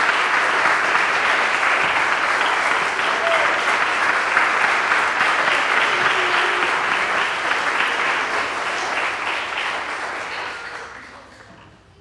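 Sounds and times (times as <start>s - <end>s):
congregation applauding: 0.0s - 11.9s.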